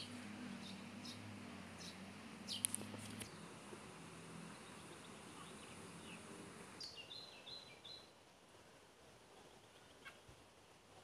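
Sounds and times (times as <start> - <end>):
faint low hum: 0.0 - 11.0
songbirds chirping: 0.0 - 11.0.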